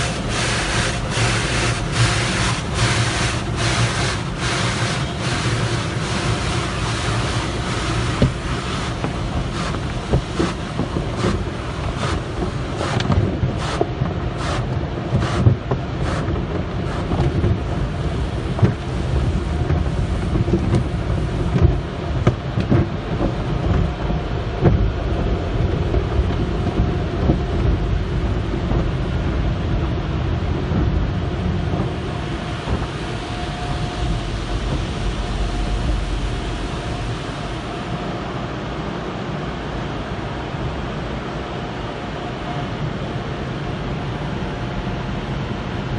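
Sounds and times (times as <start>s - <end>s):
car wash machinery rumbling: 0.0s - 45.9s.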